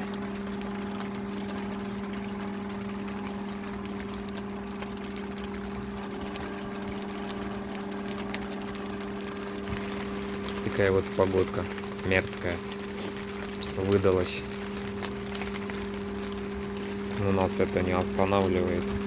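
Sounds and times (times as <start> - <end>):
electric fan motor hum: 0.0 - 19.0.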